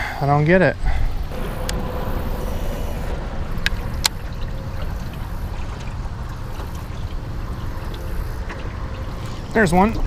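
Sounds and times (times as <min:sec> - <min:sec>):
steady wind: 0:00.0 - 0:10.0
water lapping around boat: 0:00.0 - 0:10.0.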